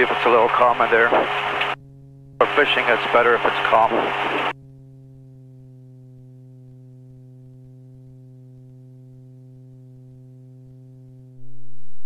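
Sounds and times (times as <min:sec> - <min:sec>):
aircraft engine running: 0:00.0 - 0:11.5.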